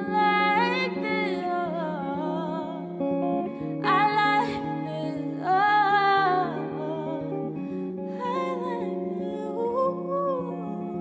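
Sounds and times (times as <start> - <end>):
electric guitar chords: 0.0 - 11.0
woman singing: 0.0 - 11.0.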